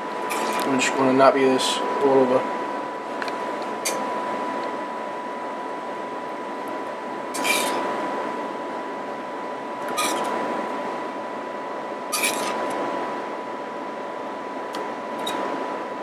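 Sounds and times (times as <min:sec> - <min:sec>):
steady fan hiss: 0:00.0 - 0:16.0.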